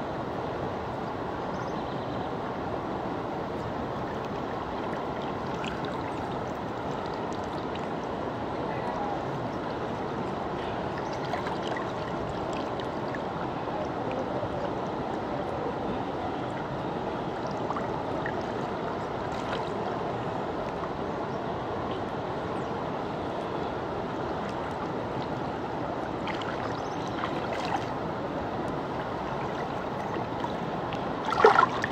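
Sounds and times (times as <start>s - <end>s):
river flowing: 0.0s - 31.9s.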